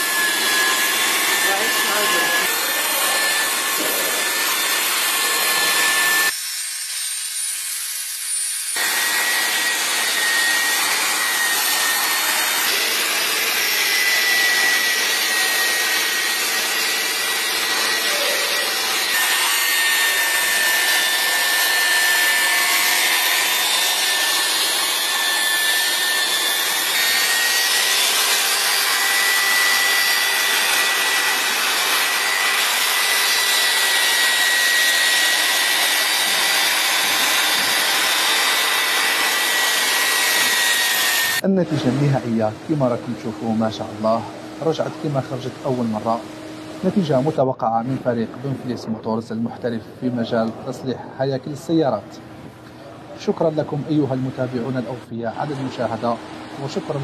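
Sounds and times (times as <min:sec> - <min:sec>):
orbital polisher on car paint: 0:00.0 - 0:48.7, 0:53.2 - 0:57.0.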